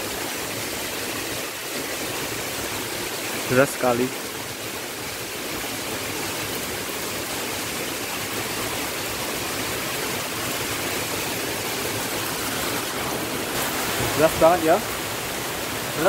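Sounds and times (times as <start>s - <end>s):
heavy rain on roofs and trees: 0.0s - 16.0s.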